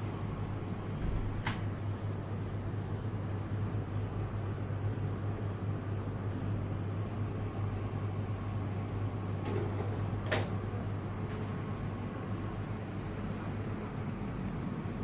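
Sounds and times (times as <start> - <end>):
refrigerated display cases humming: 0.0 - 15.0.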